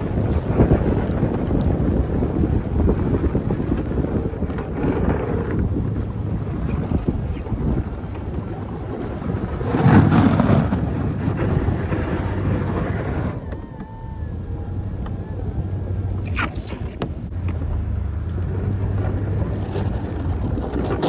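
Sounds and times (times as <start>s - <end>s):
truck engine humming: 0.0s - 21.0s.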